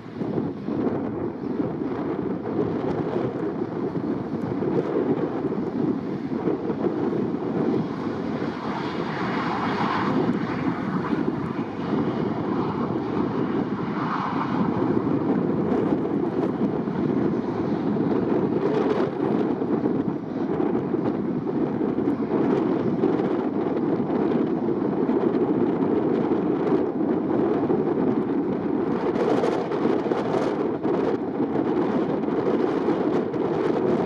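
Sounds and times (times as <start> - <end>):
jet engine rumble: 0.0 - 34.0.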